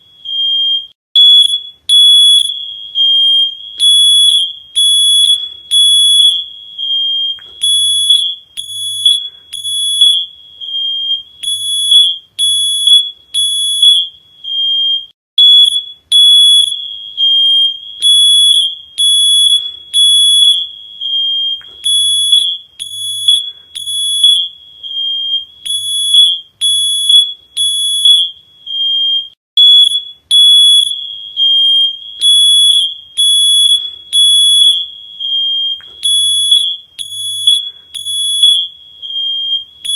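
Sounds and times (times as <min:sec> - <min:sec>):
electronic alarm beeping: 0:00.0 - 0:39.9.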